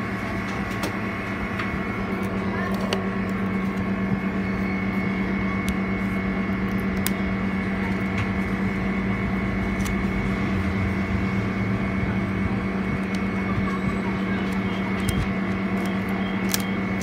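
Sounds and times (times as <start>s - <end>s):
freezer humming: 0.0s - 17.0s.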